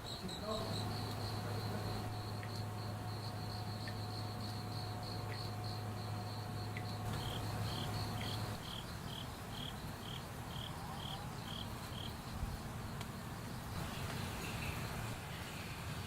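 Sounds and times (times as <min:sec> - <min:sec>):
crickets chirping: 0:00.0 - 0:15.9
low steady hum: 0:00.0 - 0:16.0.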